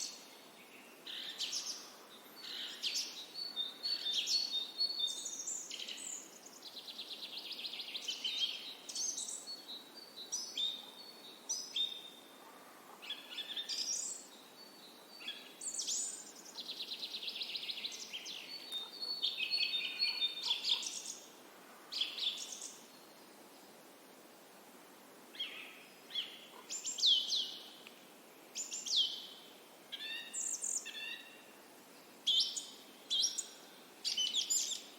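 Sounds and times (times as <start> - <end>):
songbirds chirping and trilling: 0.0 - 23.9, 25.3 - 34.9.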